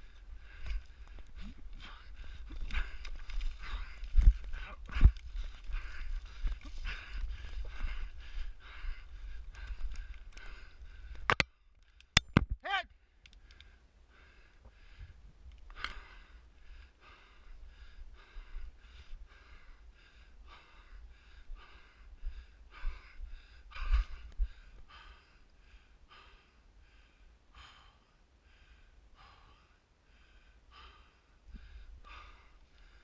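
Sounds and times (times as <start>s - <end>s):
man panting hard: 0.0s - 11.3s, 15.8s - 33.0s.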